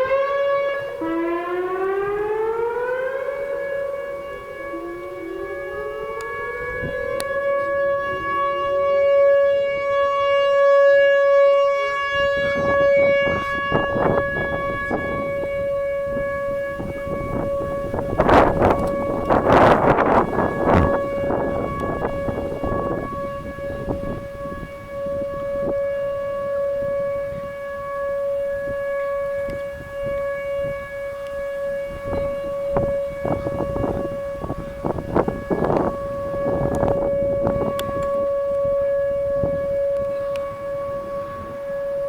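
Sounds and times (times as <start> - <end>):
warning sirens steady pitch: 0.0 - 42.0.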